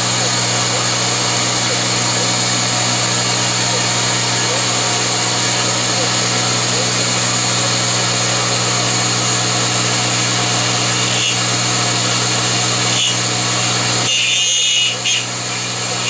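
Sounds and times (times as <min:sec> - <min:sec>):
end mill cutting wood: 0:00.0 - 0:16.0
milling machine motor hum: 0:00.0 - 0:16.0.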